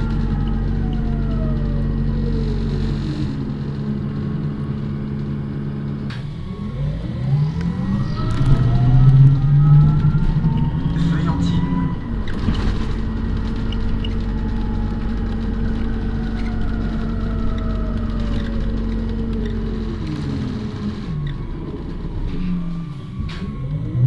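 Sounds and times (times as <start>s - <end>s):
bus engine running: 0.0s - 24.0s.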